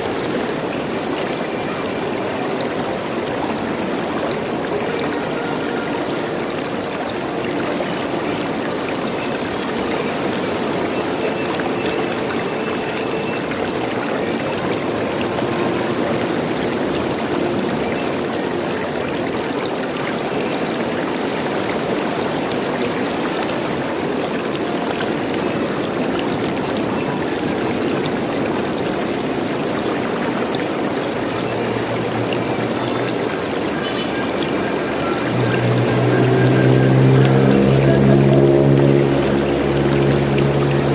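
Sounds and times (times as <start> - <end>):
water gurgling and trickling: 0.0 - 40.9.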